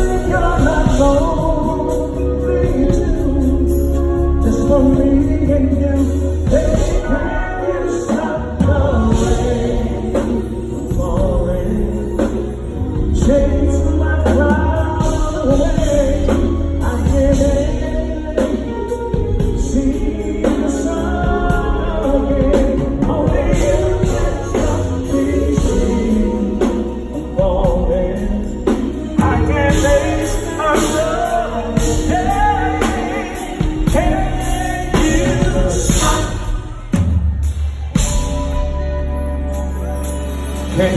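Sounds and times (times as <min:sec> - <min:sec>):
person singing: 0:00.0 - 0:37.2
band playing: 0:00.0 - 0:40.9.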